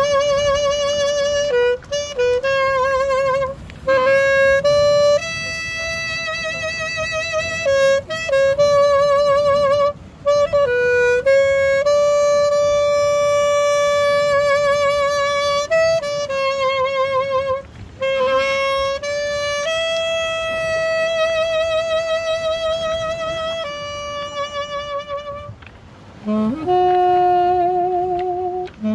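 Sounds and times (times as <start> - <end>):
saxophone solo melody: 0.0 - 28.9.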